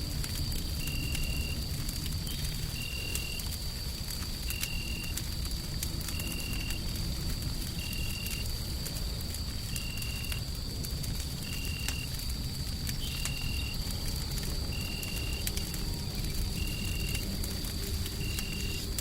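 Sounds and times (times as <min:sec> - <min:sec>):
low rumble of white noise: 0:00.0 - 0:19.0
wood fire crackling: 0:00.0 - 0:19.0.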